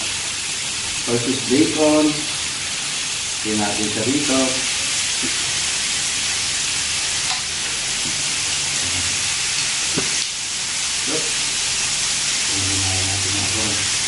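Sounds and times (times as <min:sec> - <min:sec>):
meat sizzling on a grill pan: 0:00.0 - 0:14.0.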